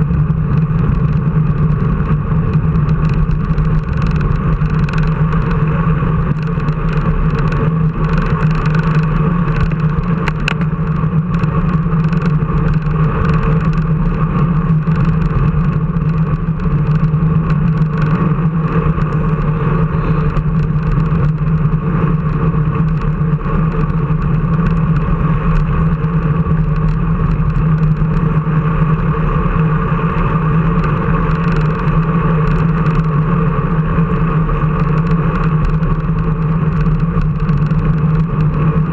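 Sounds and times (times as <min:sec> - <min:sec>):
steady engine drone: 0:00.0 - 0:38.9.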